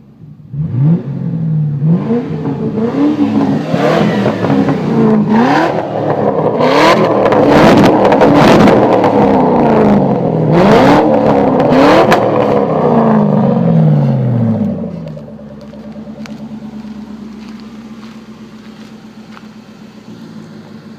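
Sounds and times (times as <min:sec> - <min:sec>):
car engine revving and idling: 0:00.0 - 0:20.9.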